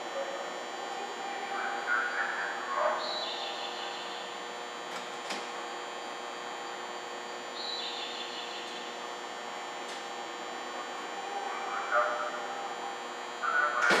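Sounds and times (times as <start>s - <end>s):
electric train humming and whining: 0.0s - 14.0s.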